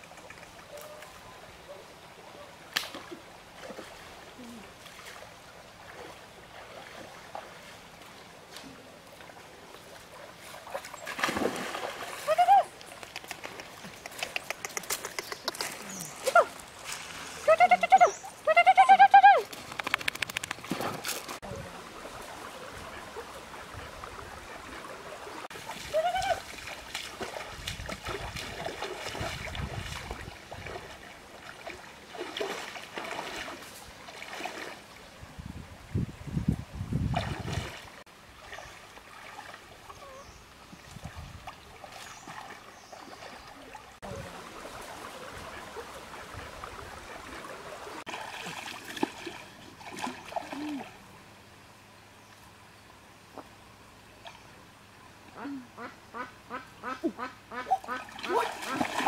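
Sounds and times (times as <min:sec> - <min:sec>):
water splashing and trickling: 0:00.0 - 0:51.7, 0:53.4 - 0:59.0.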